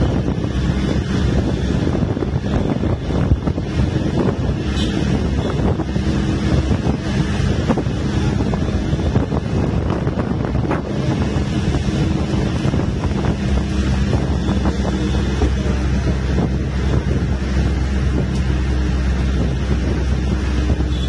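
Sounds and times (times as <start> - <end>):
bus diesel engine droning: 0.0 - 21.0
wind buffeting microphone: 0.0 - 21.0.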